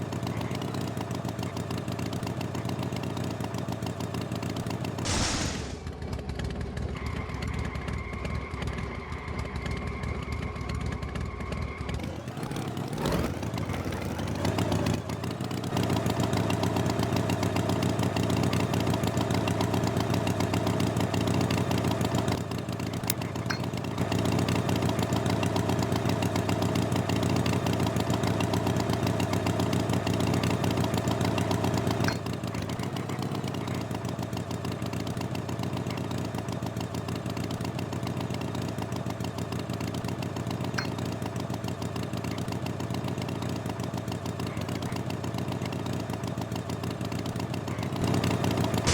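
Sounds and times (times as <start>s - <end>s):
engine running and revving: 0.0s - 48.9s.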